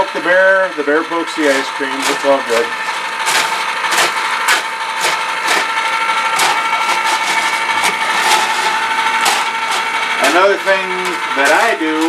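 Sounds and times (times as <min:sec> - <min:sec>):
ice cream maker motor whine: 0:00.0 - 0:12.0
ice cracking and knocking: 0:01.5 - 0:12.0.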